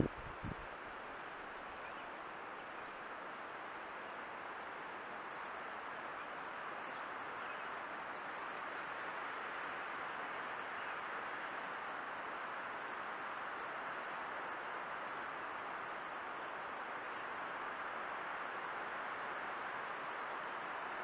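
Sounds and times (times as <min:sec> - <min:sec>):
microphone hiss: 0:00.0 - 0:21.0.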